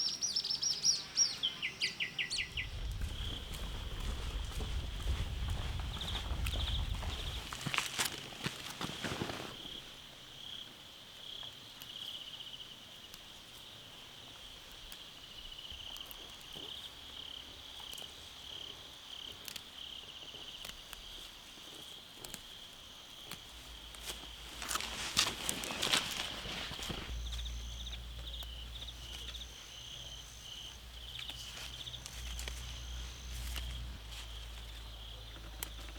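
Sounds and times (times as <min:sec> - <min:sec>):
insects chirping in trills: 0:00.0 - 0:35.9.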